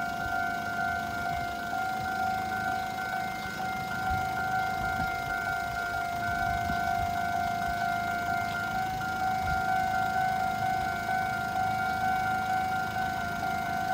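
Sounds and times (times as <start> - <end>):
two-pitch crossing alarm tone: 0.0 - 13.9.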